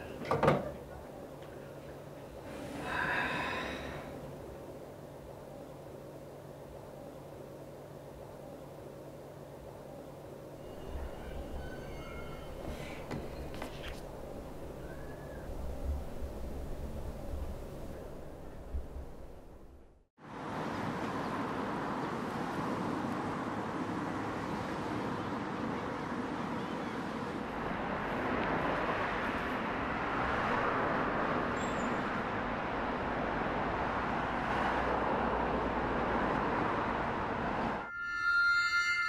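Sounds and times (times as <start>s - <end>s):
distant road traffic hiss: 0.0s - 37.8s.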